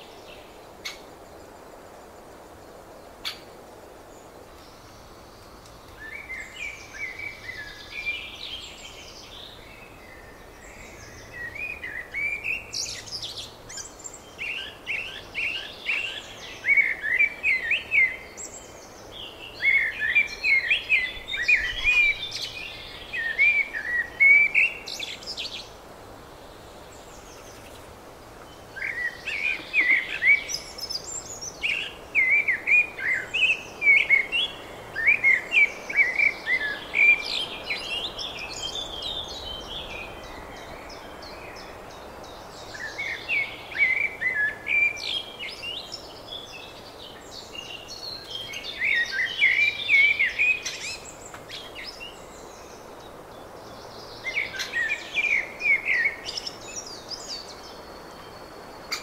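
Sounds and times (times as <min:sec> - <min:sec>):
songbirds warbling: 0:00.0 - 0:59.0.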